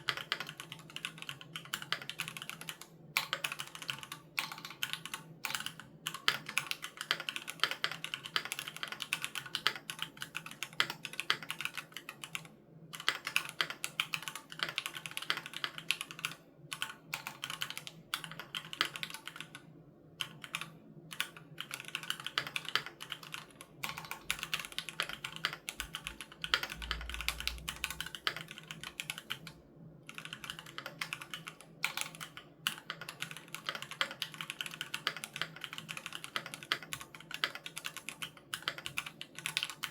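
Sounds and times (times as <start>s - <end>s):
mechanical keyboard typing: 0.0s - 19.6s, 20.2s - 39.9s.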